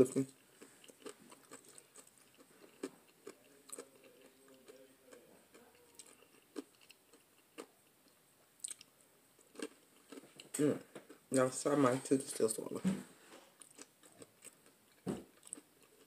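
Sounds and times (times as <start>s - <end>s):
faint chewing with mouth clicks: 0.1s - 11.3s, 13.3s - 16.0s.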